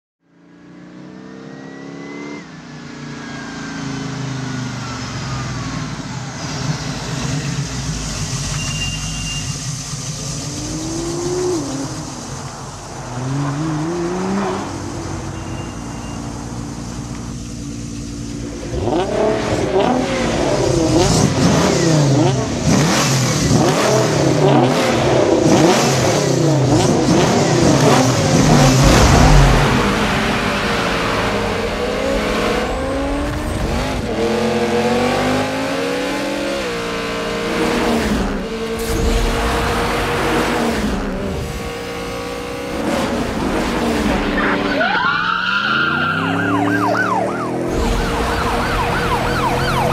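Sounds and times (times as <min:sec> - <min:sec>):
sports car engines revving: 0:00.4 - 0:49.9.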